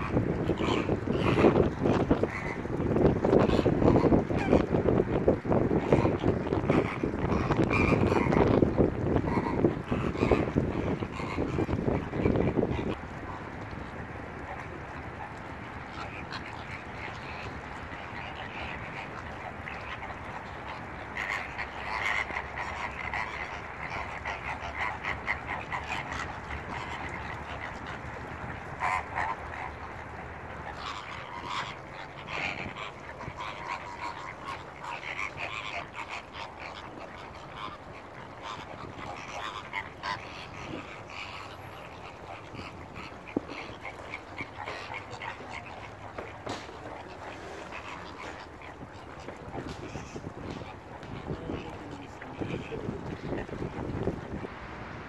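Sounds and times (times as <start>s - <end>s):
flamingos honking and chattering: 0.0s - 55.0s.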